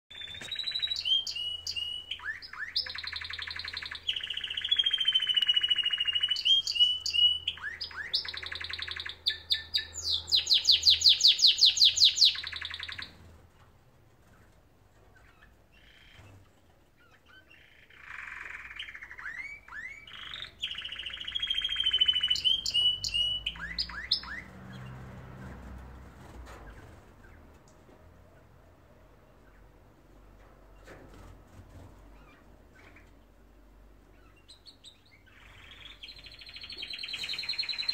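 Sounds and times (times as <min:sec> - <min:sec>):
canaries singing trills: 0:00.1 - 0:13.6, 0:14.2 - 0:37.9.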